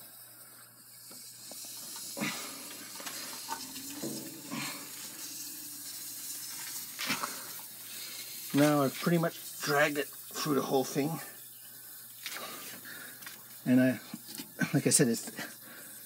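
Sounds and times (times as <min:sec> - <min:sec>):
water spray hissing in a pipe: 0:00.0 - 0:16.0.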